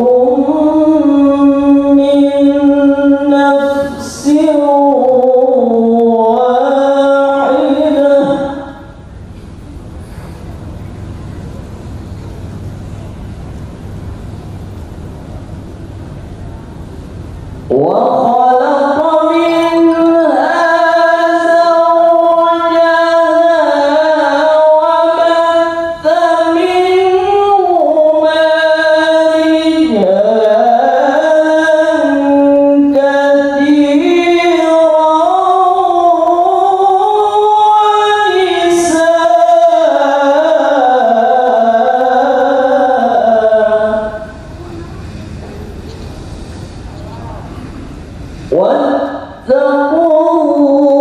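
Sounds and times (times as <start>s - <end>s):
man chanting through a microphone: 0.0s - 9.0s, 17.6s - 45.6s, 47.0s - 51.0s.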